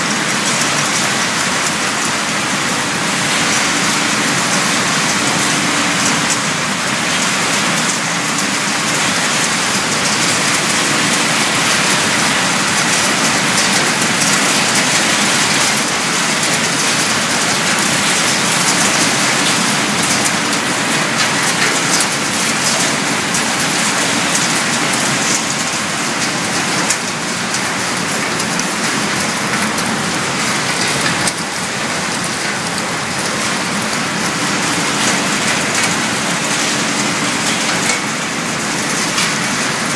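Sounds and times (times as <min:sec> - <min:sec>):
machinery rushing clatter: 0:00.0 - 0:39.9.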